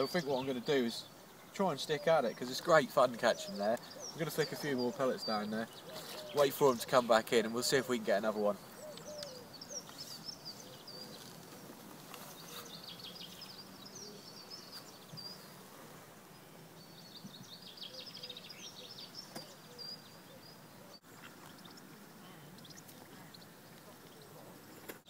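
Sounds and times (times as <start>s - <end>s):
songbird twittering trills: 0.0s - 15.7s, 16.3s - 24.9s
faint outdoor hiss: 0.0s - 25.0s.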